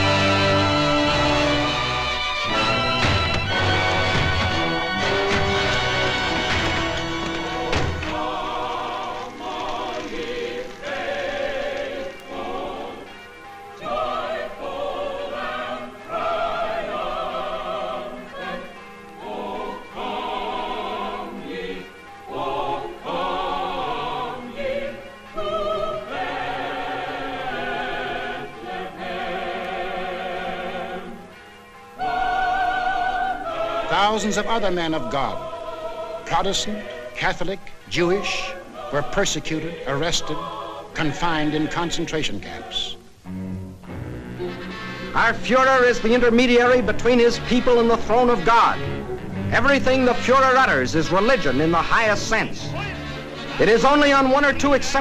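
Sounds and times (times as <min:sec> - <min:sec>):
choir singing held notes: 0:00.0 - 0:55.0.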